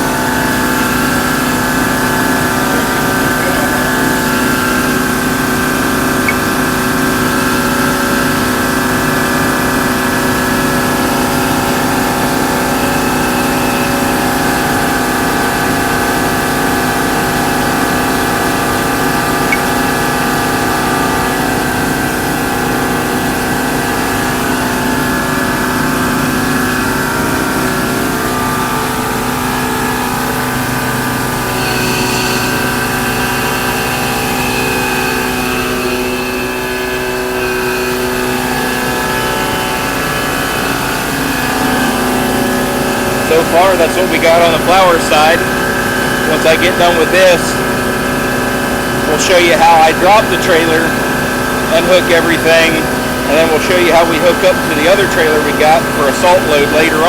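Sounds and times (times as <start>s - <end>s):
truck air blower and diesel engine: 0.0s - 57.0s.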